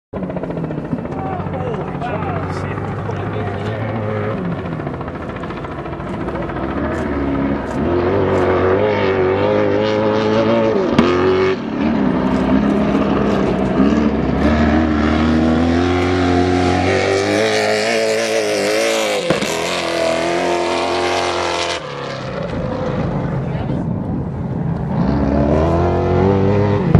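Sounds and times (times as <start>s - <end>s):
truck engines revving: 0.2s - 26.9s.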